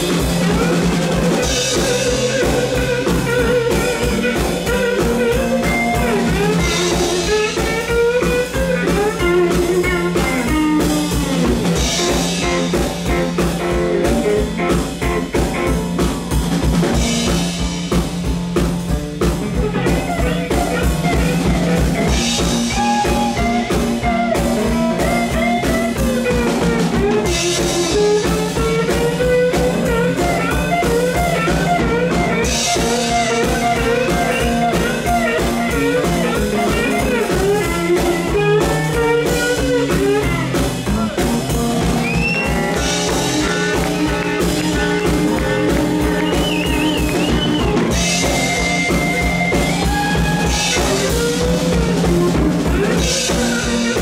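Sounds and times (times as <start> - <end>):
drum kit steady beat: 0.0 - 54.0
slide electric guitar: 0.0 - 54.0.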